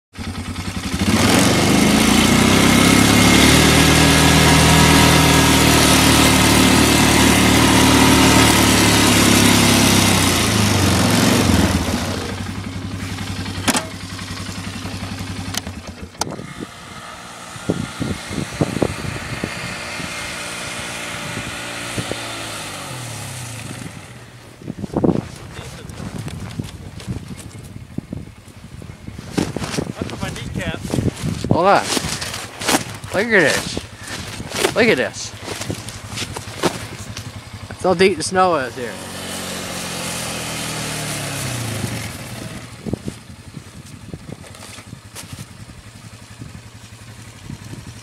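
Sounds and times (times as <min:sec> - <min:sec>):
atv engine running hard: 0:00.2 - 0:48.0.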